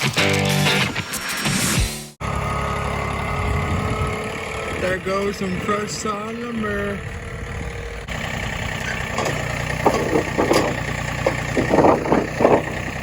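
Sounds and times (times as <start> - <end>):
engine humming with rasping surges: 1.4 - 13.0.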